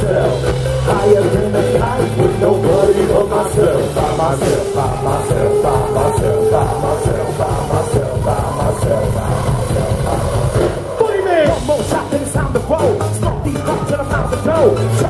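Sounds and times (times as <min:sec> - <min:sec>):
rap-rock band playing live: 0:00.0 - 0:15.0.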